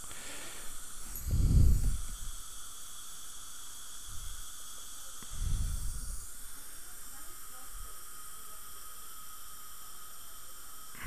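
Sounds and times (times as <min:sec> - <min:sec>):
saliva ejector suction hissing: 0:00.0 - 0:11.0.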